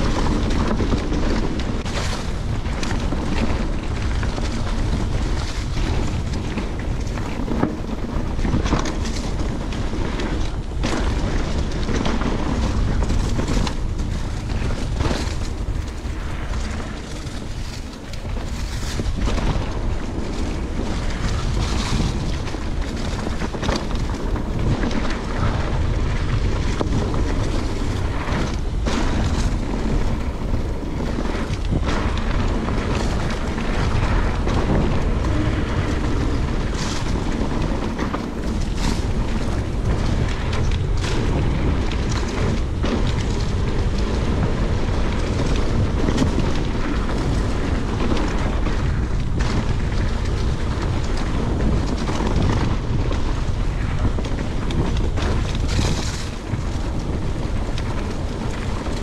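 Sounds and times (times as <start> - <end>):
bike knocks and rattles: 0.0 - 59.0
wind buffeting microphone: 0.0 - 59.0.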